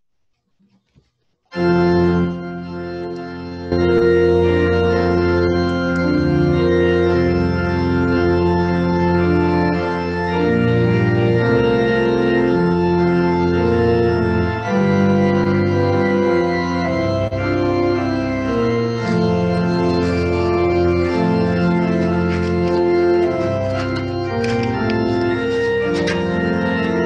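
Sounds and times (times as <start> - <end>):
organ playing held chords: 1.5 - 27.0.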